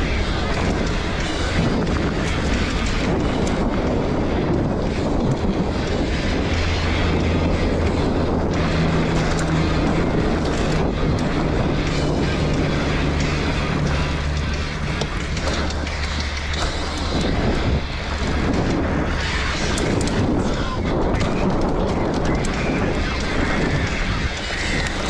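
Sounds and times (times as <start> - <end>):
bike clicking and rattling: 0.0 - 25.0
bike tyres rolling on dirt: 0.0 - 25.0
wind buffeting microphone: 0.0 - 25.0.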